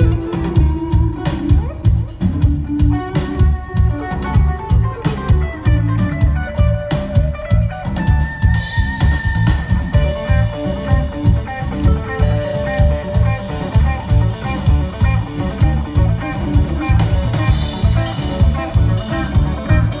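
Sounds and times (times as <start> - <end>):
bass guitar: 0.0 - 20.0
drum kit beat: 0.0 - 20.0
electric guitars: 0.0 - 20.0.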